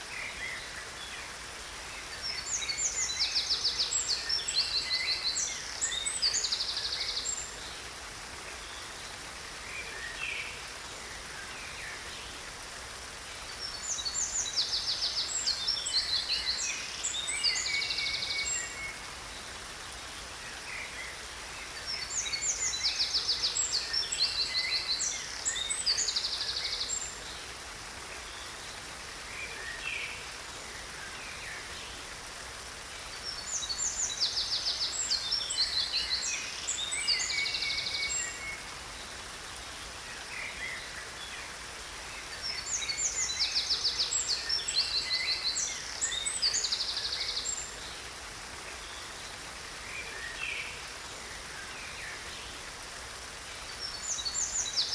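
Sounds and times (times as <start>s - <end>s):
falling water rushing: 0.0s - 54.9s.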